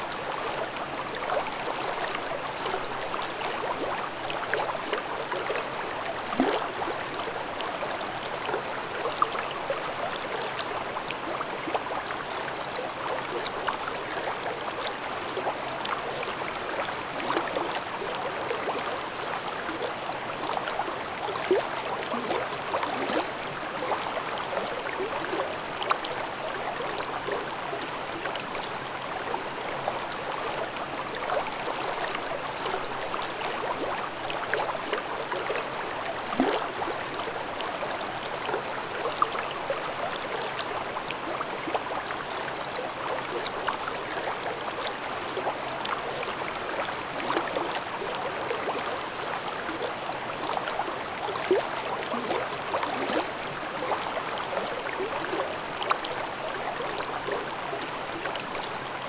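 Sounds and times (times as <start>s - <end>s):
stream babbling over rocks: 0.1s - 59.0s.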